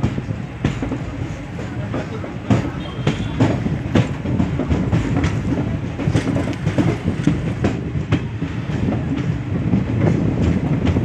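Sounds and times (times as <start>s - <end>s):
train coach rumble: 0.0s - 11.0s
wheels clicking over rails: 0.0s - 11.0s.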